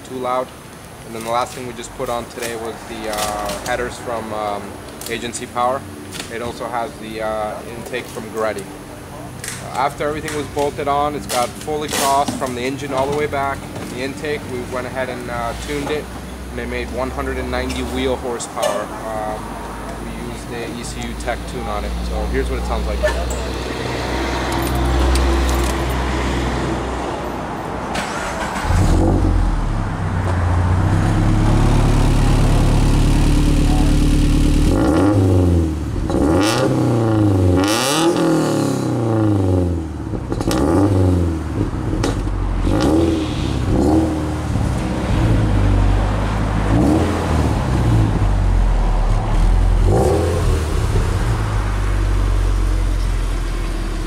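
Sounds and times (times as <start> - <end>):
car engine idling and revving: 0.5 - 54.0.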